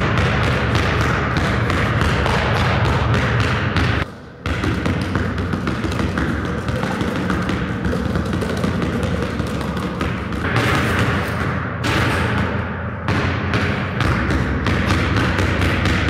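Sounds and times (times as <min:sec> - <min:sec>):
basketball dribbling on hardwood: 0:00.0 - 0:16.0.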